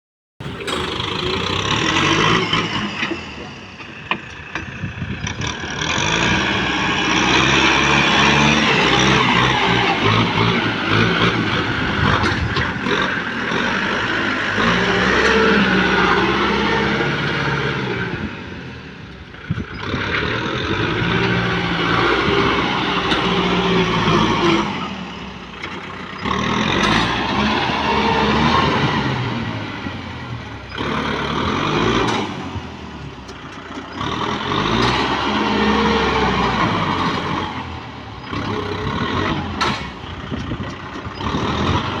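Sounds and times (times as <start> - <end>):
tractor diesel engine running: 0.4 - 42.0.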